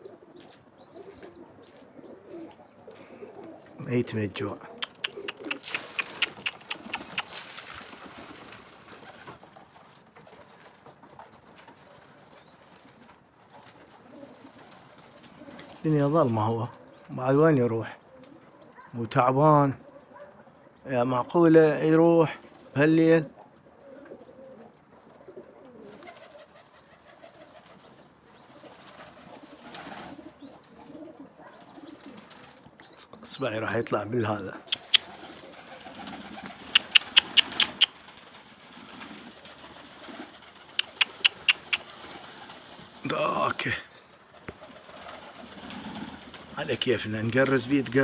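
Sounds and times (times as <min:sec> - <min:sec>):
pigeons cooing: 0:00.0 - 0:09.7, 0:11.8 - 0:17.2, 0:17.8 - 0:19.0, 0:22.4 - 0:33.2, 0:34.6 - 0:48.0.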